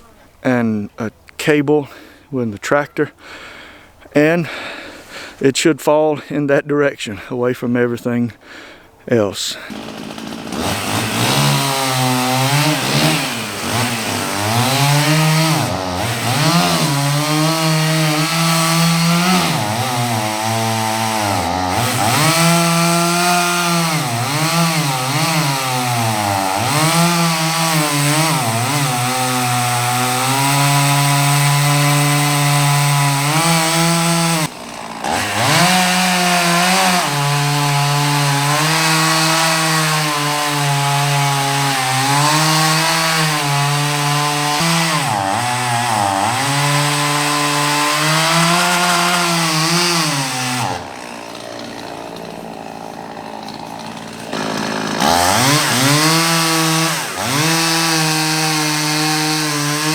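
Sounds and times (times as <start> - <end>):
chainsaw cutting wood: 9.6 - 59.9.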